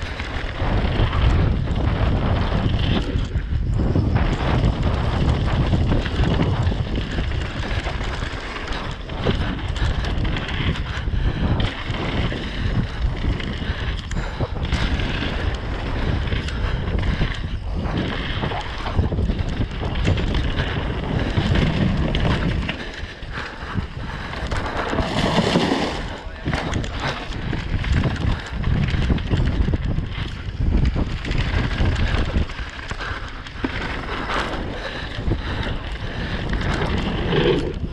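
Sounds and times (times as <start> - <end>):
bike rattling and knocking: 0.0 - 37.9
bike tyres rumbling on rough trail: 0.0 - 37.9
wind buffeting microphone: 0.0 - 37.9.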